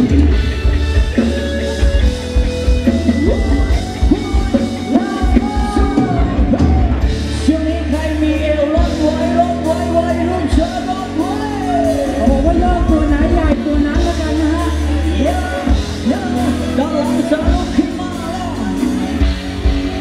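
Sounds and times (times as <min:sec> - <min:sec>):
heavy bass beat: 0:00.0 - 0:20.0
live band playing amplified music: 0:00.0 - 0:20.0
person singing: 0:03.1 - 0:19.2.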